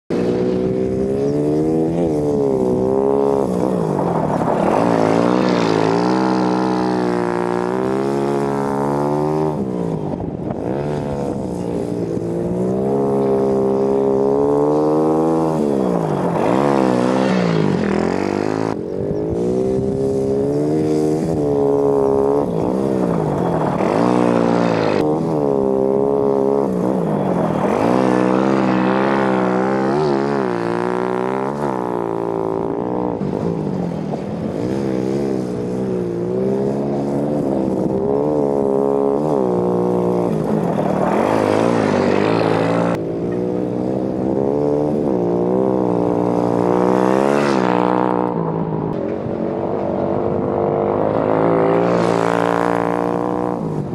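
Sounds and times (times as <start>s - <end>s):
quad bike engine revving: 0.1s - 53.9s.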